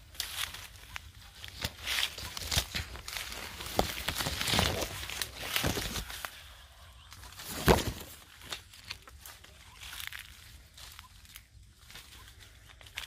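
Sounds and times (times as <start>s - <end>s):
footsteps on dry ground: 0.0s - 6.5s, 7.2s - 13.0s
leaves and twigs rustling: 0.0s - 13.0s.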